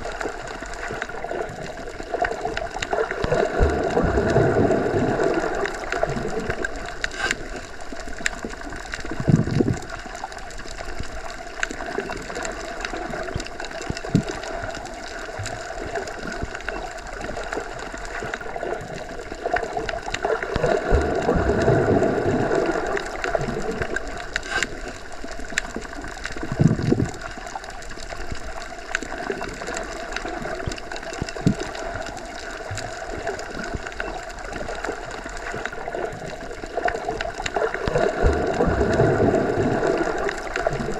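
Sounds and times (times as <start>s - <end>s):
low gurgling: 0.0s - 40.9s
underwater watery rush: 0.0s - 40.9s.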